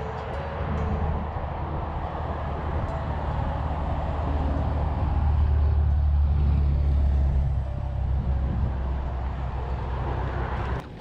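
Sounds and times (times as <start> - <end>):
passing vehicle rumble: 0.0 - 11.0.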